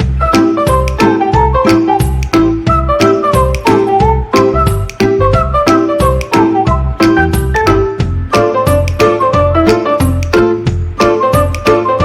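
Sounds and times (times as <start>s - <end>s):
flute-like melody: 0.0s - 12.0s
music with steady beat: 0.0s - 12.0s.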